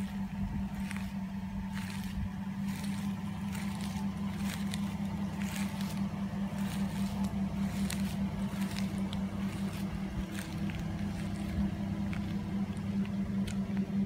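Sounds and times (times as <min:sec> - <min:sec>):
footsteps on pavement: 0:00.0 - 0:14.0
pickup engine idling: 0:00.0 - 0:14.0.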